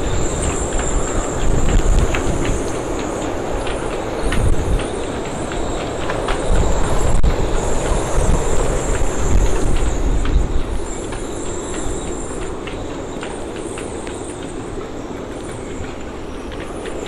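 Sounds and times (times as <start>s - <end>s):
high wind whistle: 0.0s - 17.0s
wind buffeting microphone: 0.0s - 17.0s.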